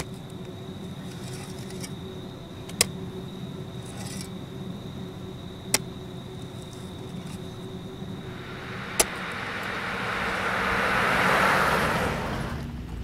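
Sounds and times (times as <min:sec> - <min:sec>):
car cabin road rumble: 0:00.0 - 0:13.0
faint high whine: 0:00.0 - 0:13.0.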